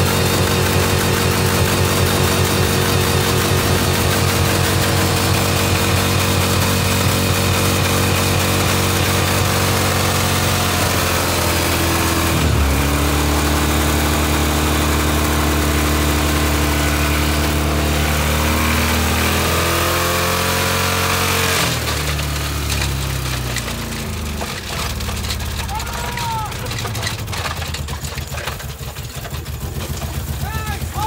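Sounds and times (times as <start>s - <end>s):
spinning tires hissing: 0.0s - 31.0s
truck engine at high revs: 0.0s - 31.0s.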